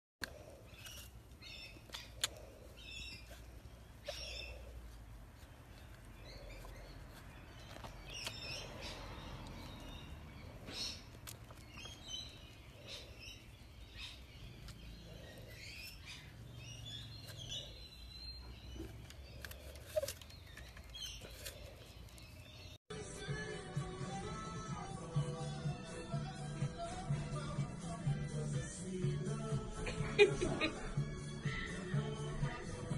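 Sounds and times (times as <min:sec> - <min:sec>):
faint low outdoor rumble: 0:00.2 - 0:30.9
birds chirping: 0:00.2 - 0:32.9.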